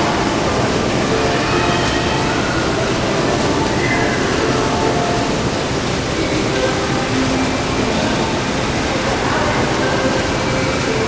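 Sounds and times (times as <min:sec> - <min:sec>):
fountain water rushing: 0:00.0 - 0:11.0.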